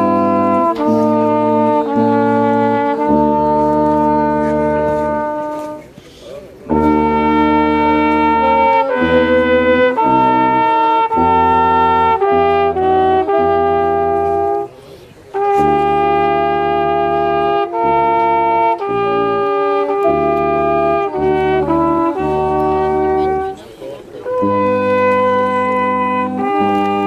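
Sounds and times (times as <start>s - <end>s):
brass band playing chords: 0.0s - 27.0s.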